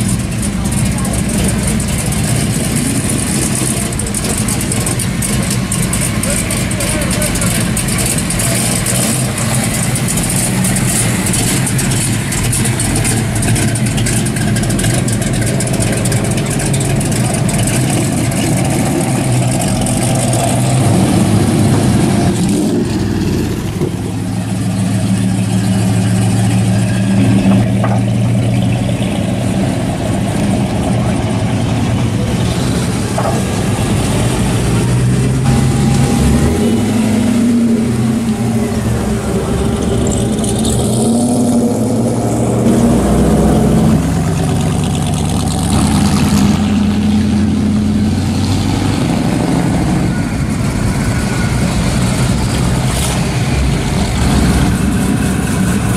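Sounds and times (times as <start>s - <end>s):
car engines driving past slowly: 0.0s - 55.9s.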